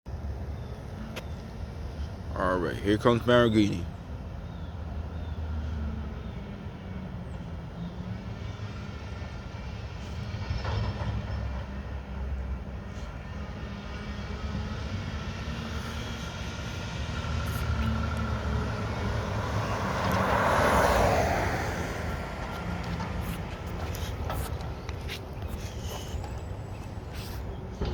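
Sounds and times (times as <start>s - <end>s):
garbage truck diesel engine: 5.0s - 27.9s.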